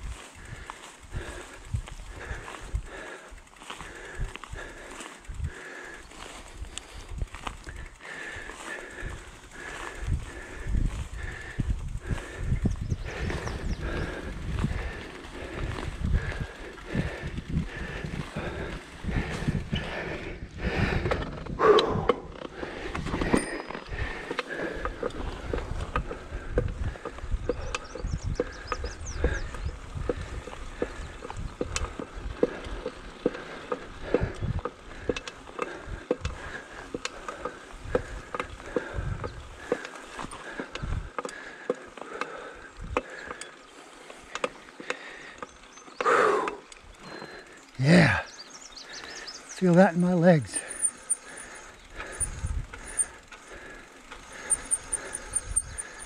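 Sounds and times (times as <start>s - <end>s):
wind rumbling on microphone: 0.0s - 41.2s, 42.4s - 44.4s, 50.6s - 56.0s
bike frame clicks and rattles: 0.0s - 56.0s
bike tyres rustling: 0.0s - 56.0s
rider exhaling: 0.1s - 56.0s.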